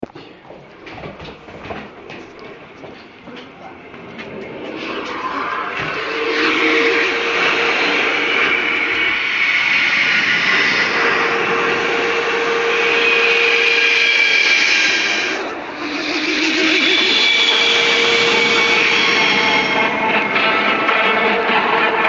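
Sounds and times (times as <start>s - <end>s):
loud steady drone with metallic roar: 2.6s - 22.0s.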